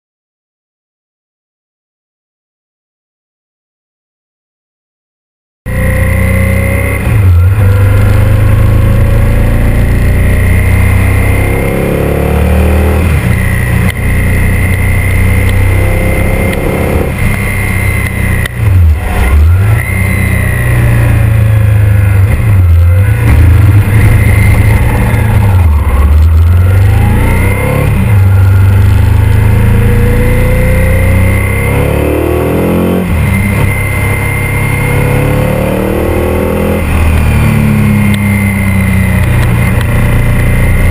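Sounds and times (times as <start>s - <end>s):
motorcycle engine accelerating: 5.7s - 40.9s.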